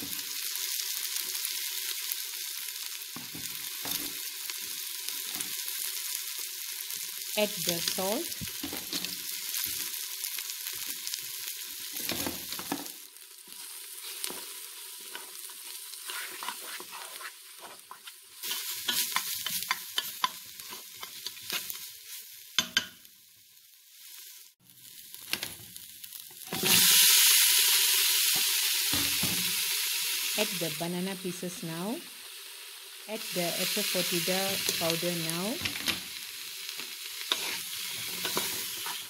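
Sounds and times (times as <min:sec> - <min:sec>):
masala sizzling in hot oil: 0:00.0 - 0:39.0.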